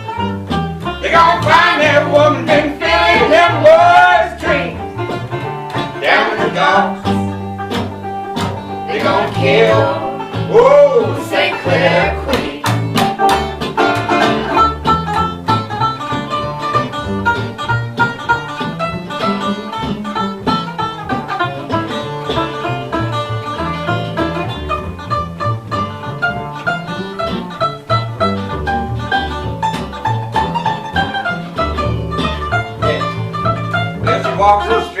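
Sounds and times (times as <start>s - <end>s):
banjo picking: 0.0s - 35.0s
bass line: 0.0s - 35.0s
fiddle bowing: 0.0s - 35.0s
guitar picking: 0.0s - 35.0s.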